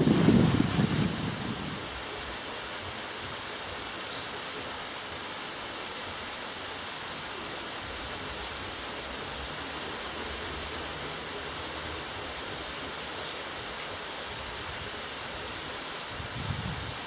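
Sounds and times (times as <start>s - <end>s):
water rushing off waterwheel: 0.0s - 17.0s.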